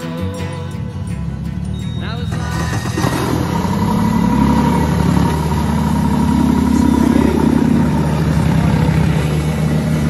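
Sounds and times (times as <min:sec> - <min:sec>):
steady whine: 0:00.8 - 0:10.0
outboard motor running: 0:01.2 - 0:10.0.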